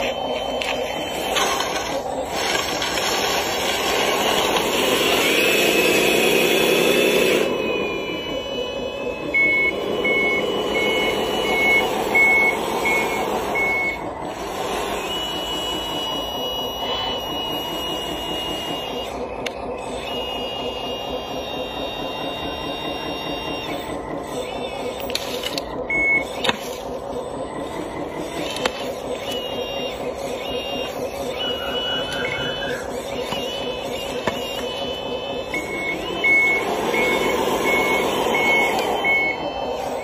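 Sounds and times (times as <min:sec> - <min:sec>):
model vehicle motor drone: 0:00.0 - 0:25.6, 0:26.2 - 0:40.0
reversing beeper: 0:00.0 - 0:40.0.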